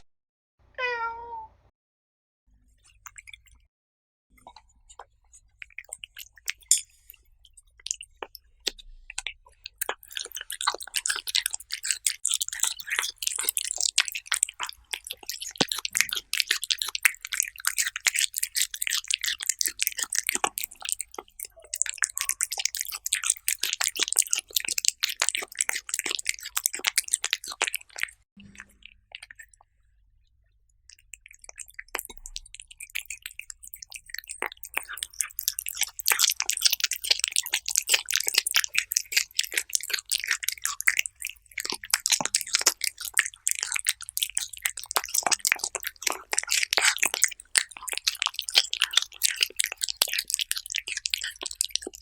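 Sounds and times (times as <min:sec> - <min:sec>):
cats chewing: 0:05.0 - 0:29.8, 0:30.9 - 0:52.0.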